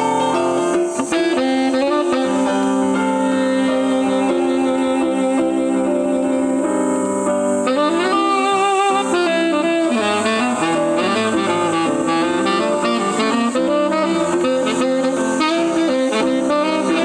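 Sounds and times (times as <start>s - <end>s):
jazz band playing: 0.0s - 17.0s
saxophone melody with vibrato: 0.0s - 17.0s.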